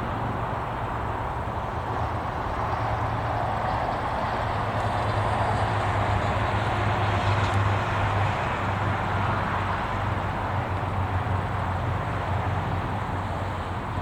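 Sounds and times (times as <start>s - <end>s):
highway traffic noise: 0.0s - 14.0s.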